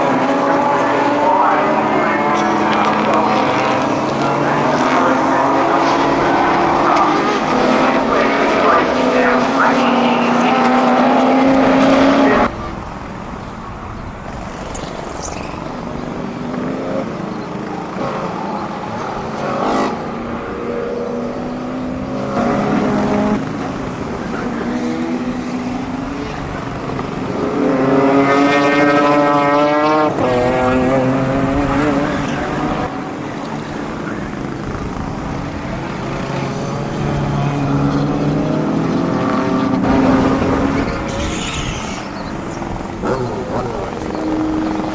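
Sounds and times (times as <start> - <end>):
racing car engines at full throttle: 0.0 - 44.9.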